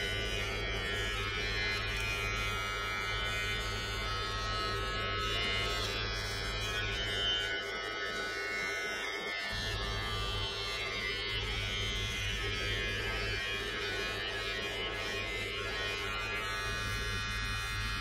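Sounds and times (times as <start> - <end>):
beard trimmer running: 0.0 - 18.0.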